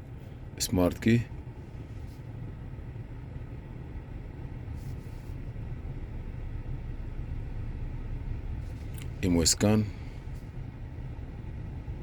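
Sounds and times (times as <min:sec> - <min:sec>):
soft hiss: 0:00.0 - 0:11.8
air conditioning running: 0:00.0 - 0:12.0
car engine idling: 0:00.0 - 0:12.0.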